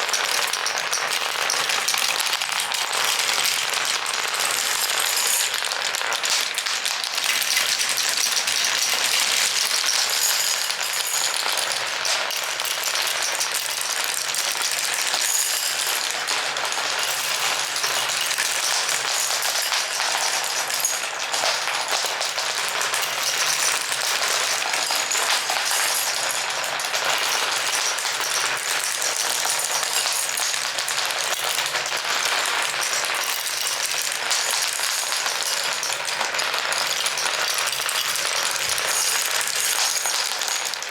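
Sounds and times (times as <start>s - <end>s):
glass marbles rolling and clicking: 0.0s - 40.9s.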